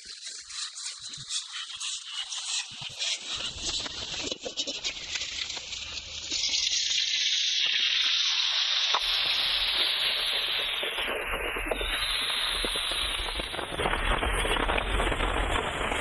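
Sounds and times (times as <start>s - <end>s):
chicken sizzling in hot oil: 0.5s - 16.0s.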